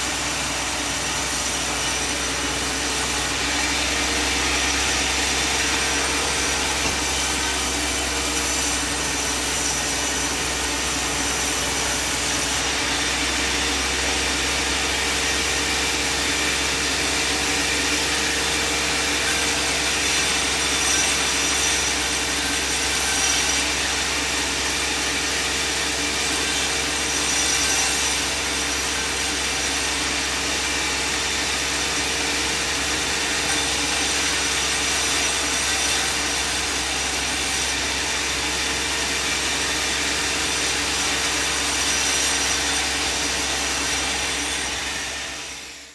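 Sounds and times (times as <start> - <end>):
band saw cutting timber: 0.0 - 45.9.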